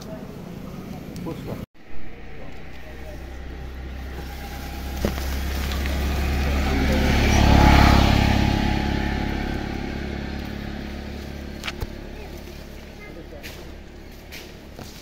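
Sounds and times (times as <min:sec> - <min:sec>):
motor vehicle passing by: 0:01.8 - 0:15.0.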